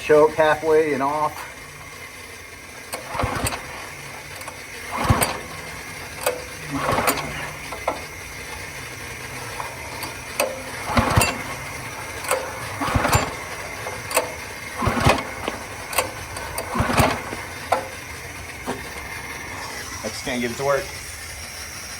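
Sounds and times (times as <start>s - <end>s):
engine recoil starter pulls: 0.0s - 21.9s.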